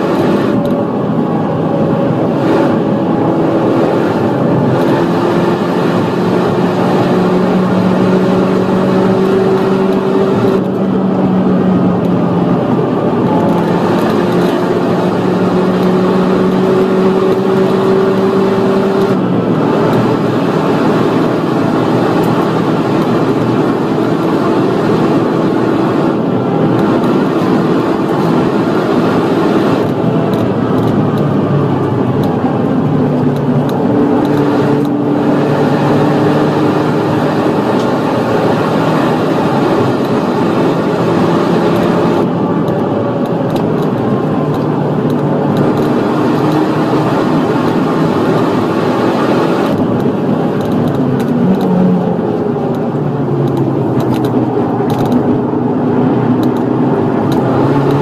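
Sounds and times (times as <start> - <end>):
car engine at full throttle: 0.0 - 58.0.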